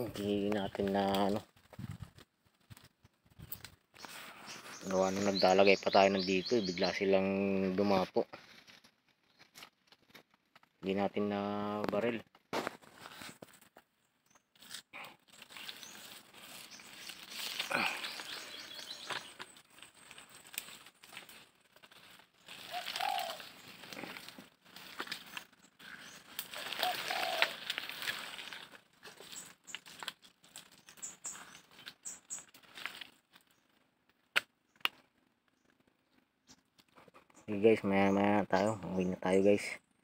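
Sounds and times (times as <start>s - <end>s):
leaves and branches rustling: 0.0s - 38.0s.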